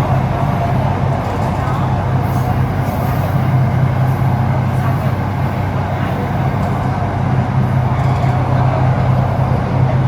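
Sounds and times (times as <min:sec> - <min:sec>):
metro train running: 0:00.0 - 0:10.0.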